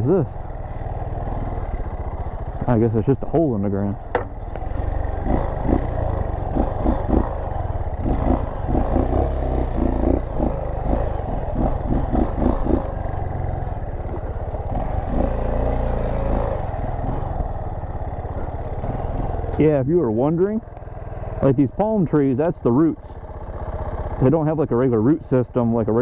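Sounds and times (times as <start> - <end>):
dirt bike engine running: 0.0 - 26.0
bike rattling over rough ground: 0.3 - 26.0.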